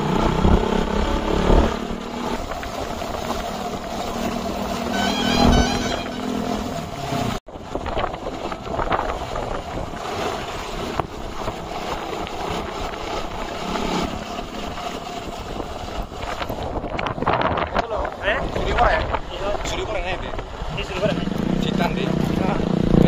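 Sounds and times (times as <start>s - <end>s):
wind rushing over microphone: 0.0s - 5.7s, 6.5s - 23.0s
motorcycle engines running: 0.0s - 23.0s.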